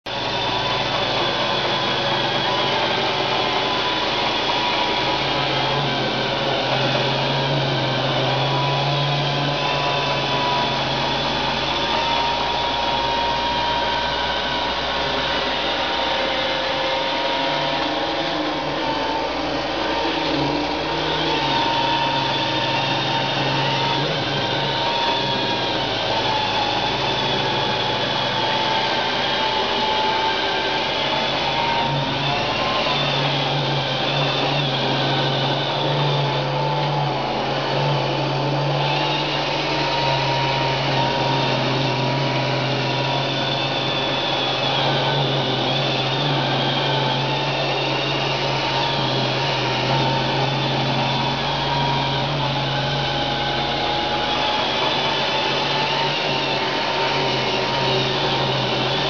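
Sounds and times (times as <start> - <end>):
robot vacuum motor whine: 0.1 - 59.0.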